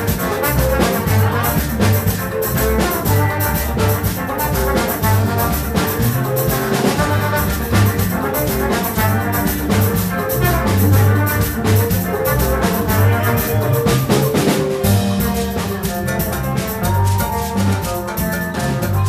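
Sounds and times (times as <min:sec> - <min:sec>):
bass line: 0:00.0 - 0:19.0
drum kit and percussion: 0:00.0 - 0:19.0
melodic parts: 0:00.0 - 0:19.0.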